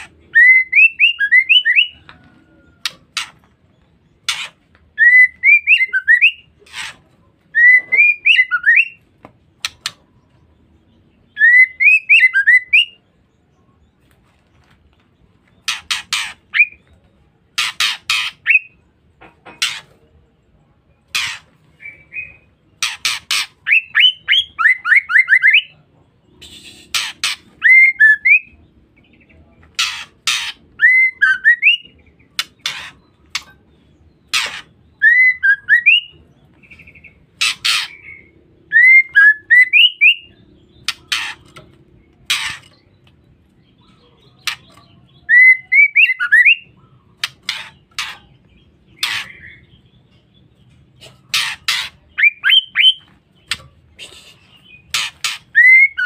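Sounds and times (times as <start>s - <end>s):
bird harsh rasping calls: 0.0s - 9.0s, 15.6s - 18.8s, 19.5s - 20.0s, 21.1s - 25.7s, 26.3s - 28.6s, 29.7s - 43.0s, 43.7s - 56.0s.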